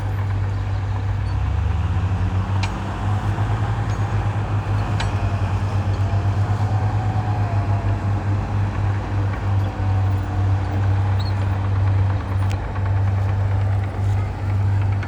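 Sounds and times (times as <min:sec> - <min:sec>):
heavy diesel engine throbbing: 0:00.0 - 0:15.0.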